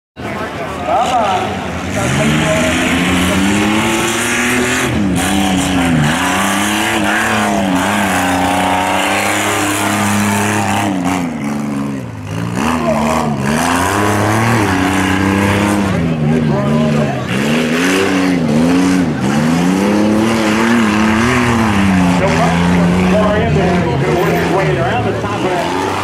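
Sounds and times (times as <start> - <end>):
truck engine revving at full throttle: 0.2 - 26.0.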